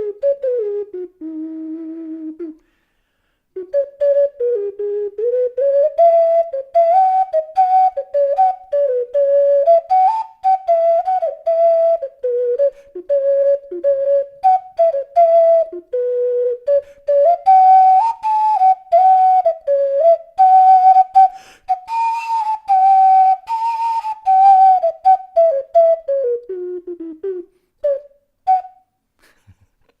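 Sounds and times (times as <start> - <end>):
ocarina playing a melody: 0.0 - 2.8, 3.5 - 28.9.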